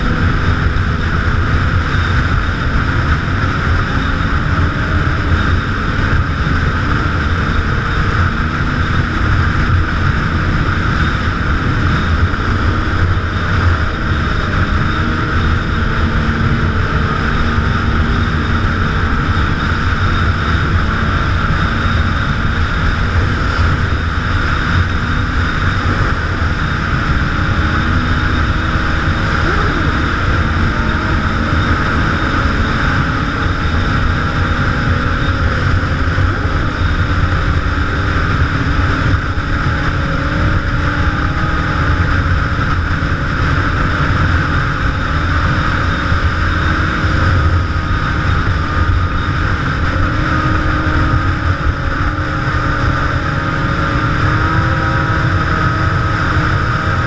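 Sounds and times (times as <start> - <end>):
motorcycle engine: 0.0 - 57.0
other motorcycle engines: 0.0 - 57.0
wind noise: 0.0 - 57.0.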